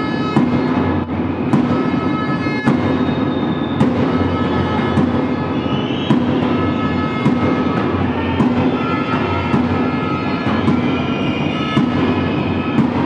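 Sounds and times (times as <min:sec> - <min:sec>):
crowd din: 0:00.0 - 0:13.0
drum beating steady rhythm: 0:00.0 - 0:13.0.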